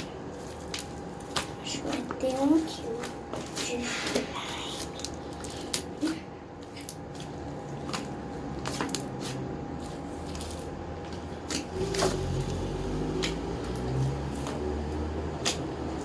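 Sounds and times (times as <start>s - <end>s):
steady low hum: 0.0s - 16.0s
wet slime squishing: 0.0s - 16.0s.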